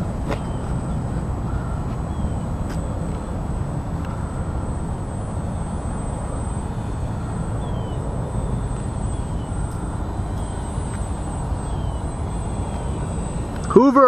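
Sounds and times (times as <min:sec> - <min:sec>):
electric motor and propeller whine: 0:00.0 - 0:14.0.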